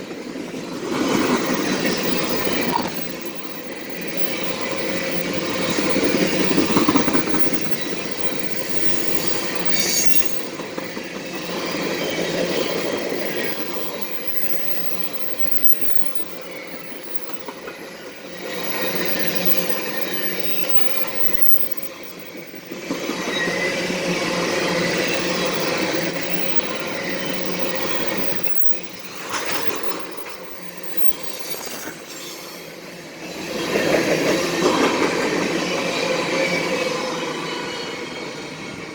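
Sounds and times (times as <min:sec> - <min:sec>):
train wheels clattering on rails: 0:00.0 - 0:31.2, 0:32.7 - 0:38.9
high wheel squeal: 0:01.4 - 0:34.6.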